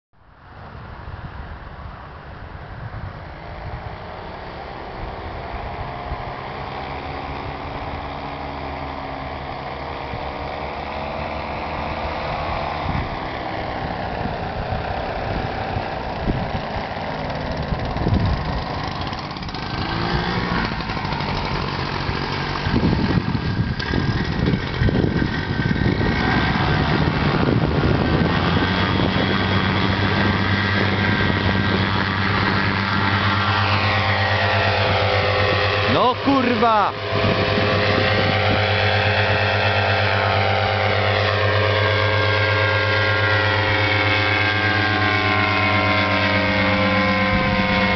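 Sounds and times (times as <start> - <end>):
paramotor engine droning: 0.3 - 47.9
wind buffeting on microphone: 0.6 - 47.9.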